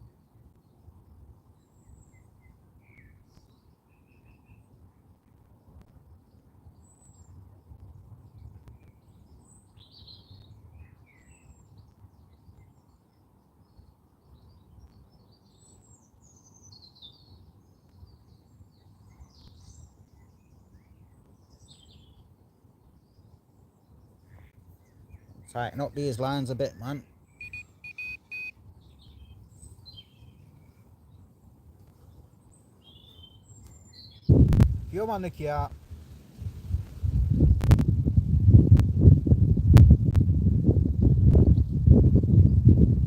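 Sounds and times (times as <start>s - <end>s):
faint songbirds chirping: 0.0s - 38.3s.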